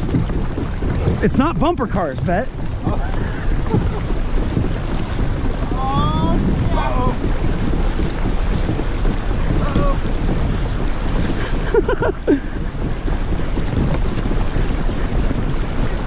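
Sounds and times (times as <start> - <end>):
water noise from kayaks: 0.0 - 16.0
wind buffeting microphone: 0.0 - 16.0.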